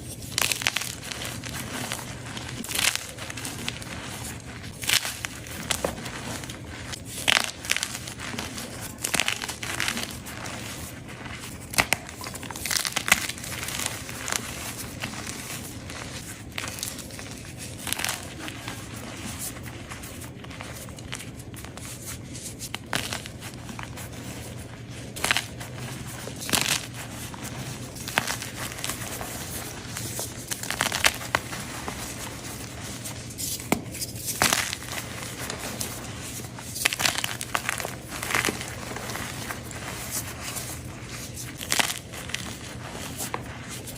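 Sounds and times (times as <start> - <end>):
chalk crunching and crumbling: 0.0 - 43.9.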